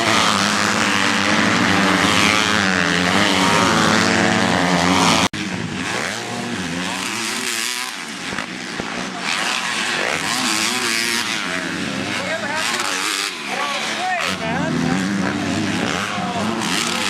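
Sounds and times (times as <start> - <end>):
motocross engines revving: 0.0 - 17.0.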